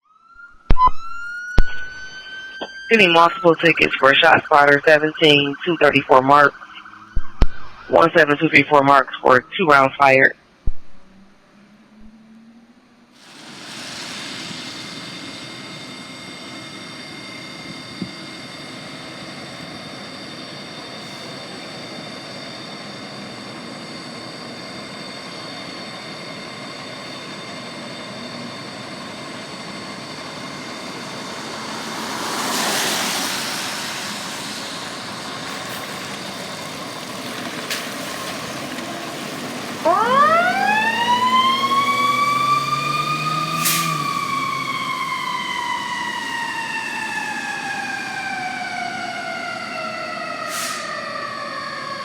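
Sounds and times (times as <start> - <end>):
high steady whines: 0.0 - 52.0
vehicle engine noise: 1.1 - 50.9.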